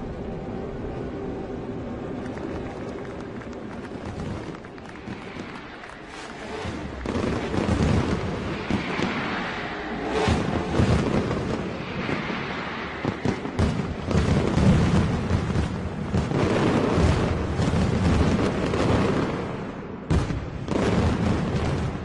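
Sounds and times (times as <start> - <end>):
fireworks bangs and crackling: 2.3 - 22.0.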